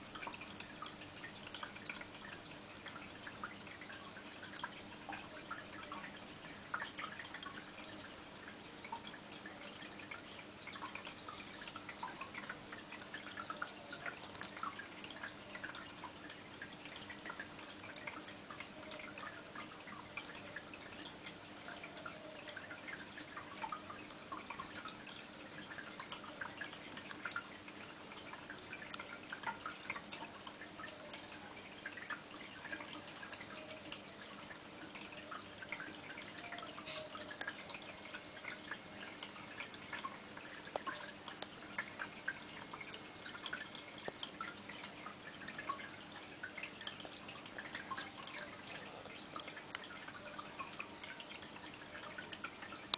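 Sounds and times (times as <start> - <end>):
water dripping and trickling: 0.0 - 52.9.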